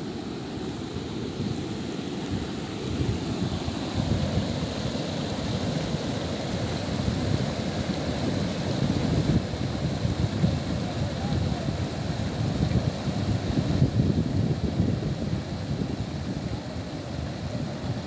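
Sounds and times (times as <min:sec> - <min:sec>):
floodwater rushing roar: 0:00.0 - 0:18.0.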